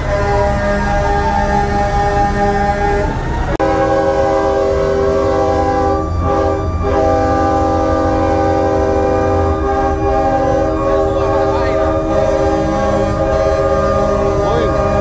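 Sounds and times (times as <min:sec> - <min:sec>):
train horn chord: 0:00.0 - 0:15.0.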